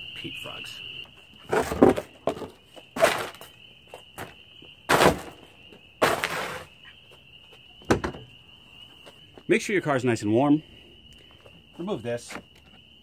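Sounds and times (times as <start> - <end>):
spring peepers chorus: 0.0 - 13.0.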